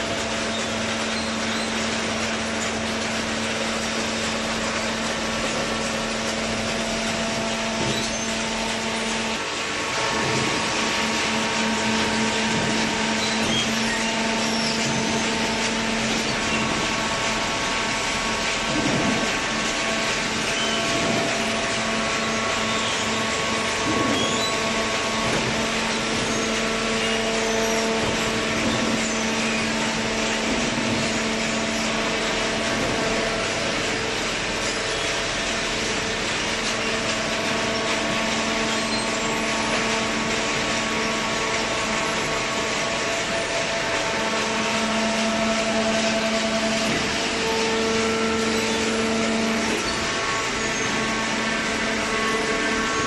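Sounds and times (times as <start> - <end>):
shredding and baling machinery din: 0.0 - 53.0.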